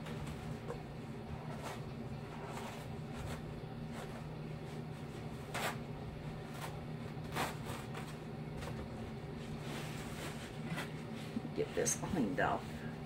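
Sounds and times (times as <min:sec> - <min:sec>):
low room tone hum: 0:00.0 - 0:13.0
soft rustles: 0:00.0 - 0:13.0.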